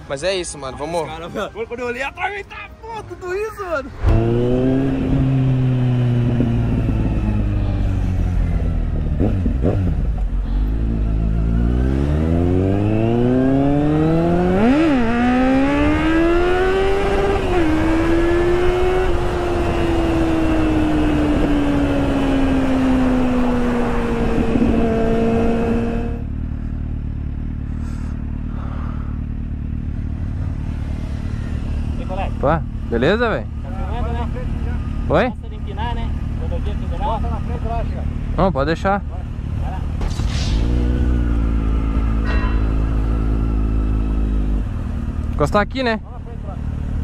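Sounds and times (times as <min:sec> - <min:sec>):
motorcycle engine accelerating: 0:04.0 - 0:47.0.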